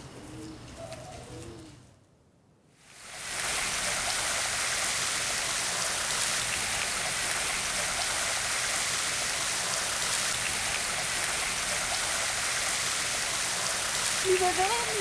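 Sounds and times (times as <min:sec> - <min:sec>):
water splashing: 0:03.0 - 0:15.0.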